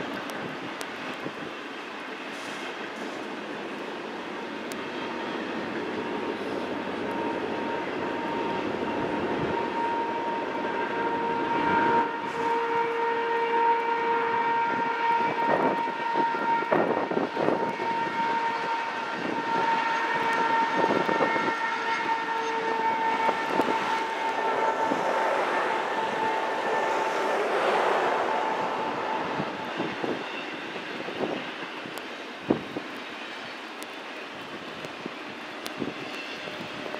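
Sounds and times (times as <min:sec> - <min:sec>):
freight train rolling past: 0:00.0 - 0:36.9.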